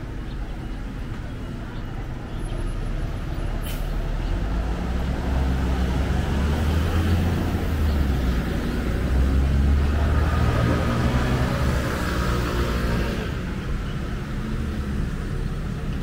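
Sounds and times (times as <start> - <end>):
heavy vehicle engine rumbling: 0.0 - 16.0
street traffic: 0.0 - 16.0.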